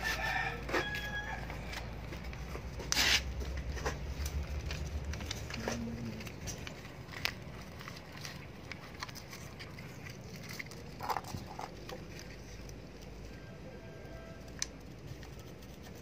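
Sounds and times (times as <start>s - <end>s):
paper crackling and rustling: 0.0s - 13.4s, 14.3s - 16.0s.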